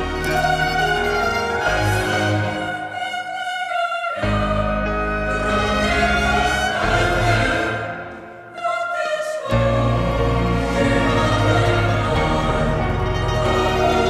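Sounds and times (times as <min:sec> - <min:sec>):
orchestral music with bowed strings: 0:00.0 - 0:03.1, 0:04.2 - 0:08.2, 0:09.5 - 0:14.0.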